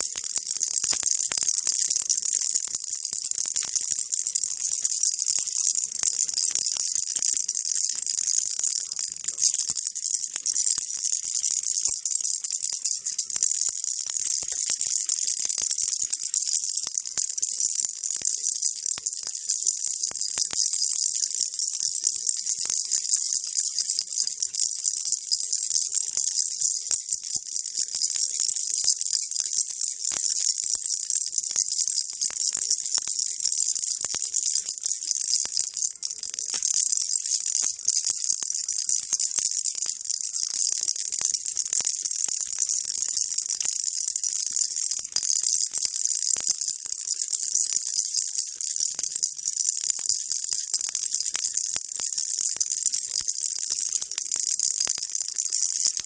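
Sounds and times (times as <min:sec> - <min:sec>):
baby rattle shaking: 0:00.0 - 0:49.3.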